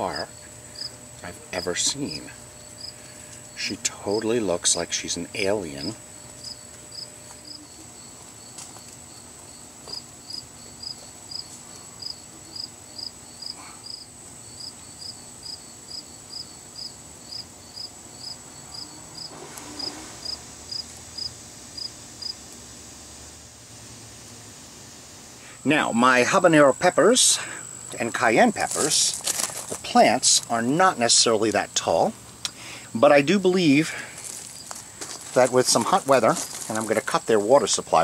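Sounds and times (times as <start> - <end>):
cricket chirping: 0.0 - 22.4, 25.4 - 37.7
faint high insect drone: 0.0 - 38.0.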